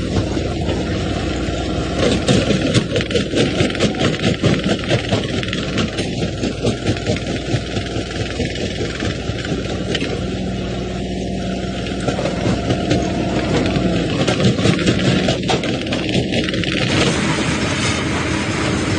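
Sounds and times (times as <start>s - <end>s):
low machine hum: 0.0s - 18.9s.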